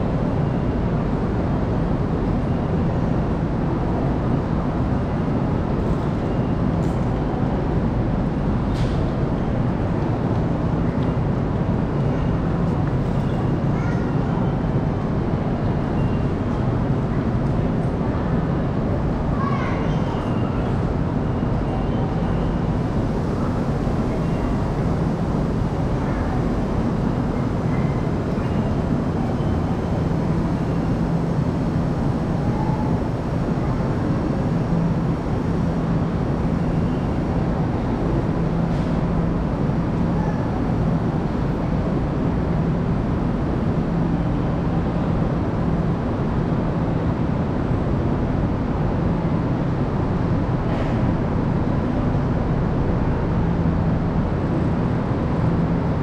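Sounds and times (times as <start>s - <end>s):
low hum and rumble: 0.0s - 56.0s.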